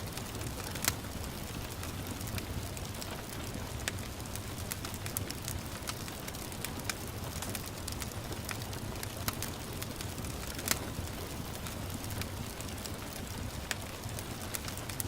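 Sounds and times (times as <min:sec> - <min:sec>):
gentle rain hissing: 0:00.0 - 0:15.0
wood fire crackling and popping: 0:00.0 - 0:15.0.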